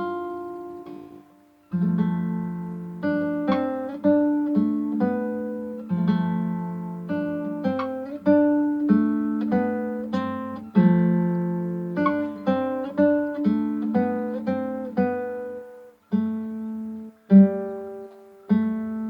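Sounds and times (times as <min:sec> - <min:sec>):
acoustic guitar plucking: 0:00.0 - 0:19.0.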